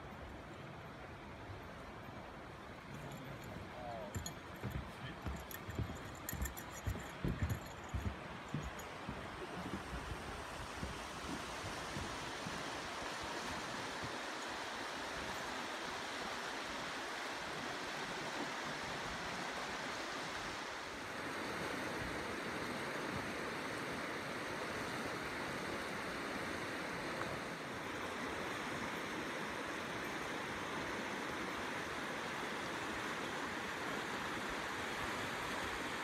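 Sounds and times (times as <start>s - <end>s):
river rushing over stones: 0.2s - 36.0s.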